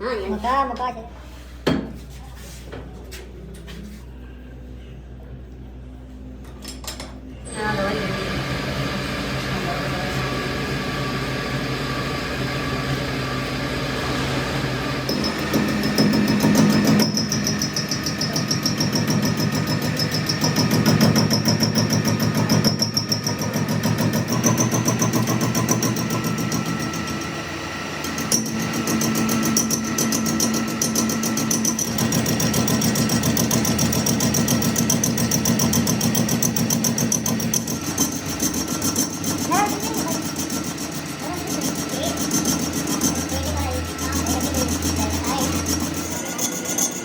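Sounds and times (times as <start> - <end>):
machine running with pulsing whine: 7.5 - 47.0.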